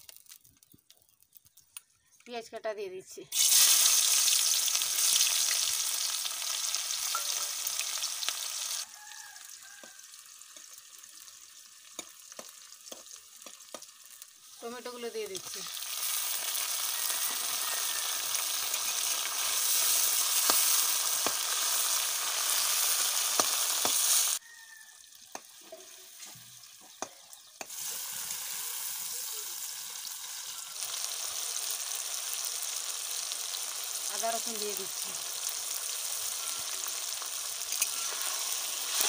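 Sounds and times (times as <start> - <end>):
vegetables sizzling in hot oil: 3.3 - 39.0.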